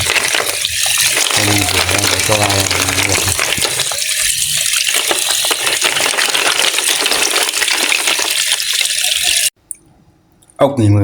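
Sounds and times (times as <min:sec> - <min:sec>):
tap water gushing: 0:00.0 - 0:09.6.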